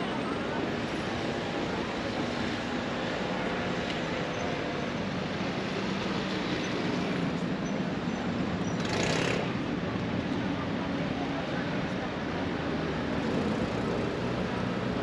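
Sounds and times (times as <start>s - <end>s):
traffic hum: 0.0s - 15.0s.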